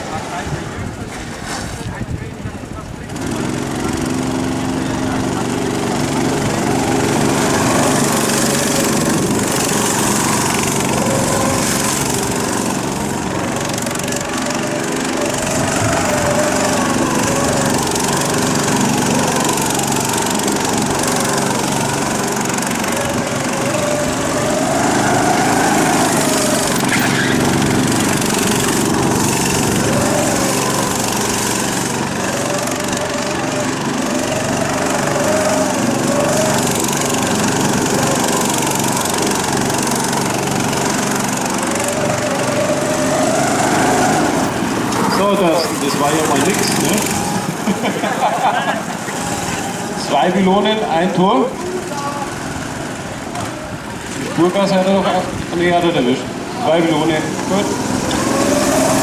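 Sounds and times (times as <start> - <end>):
go-kart engine revving: 0.0 - 1.1, 1.9 - 59.0.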